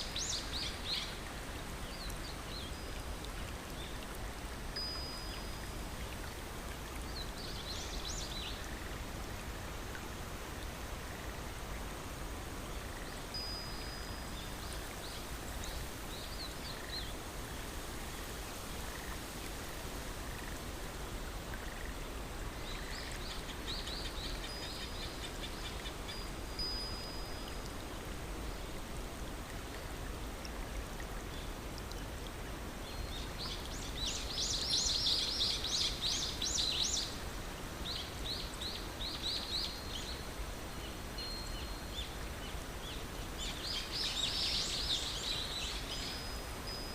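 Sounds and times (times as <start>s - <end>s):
flowing water rushing: 0.0s - 46.9s.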